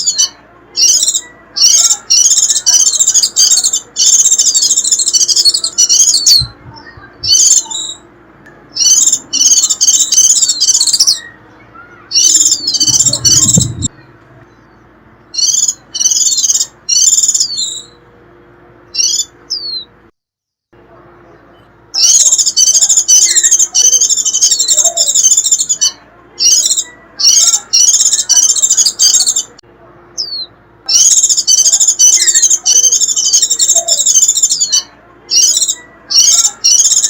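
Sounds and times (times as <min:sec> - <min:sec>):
bird twittering call: 0:00.0 - 0:08.1, 0:08.7 - 0:18.0, 0:18.9 - 0:19.9, 0:21.9 - 0:29.5, 0:30.2 - 0:37.0.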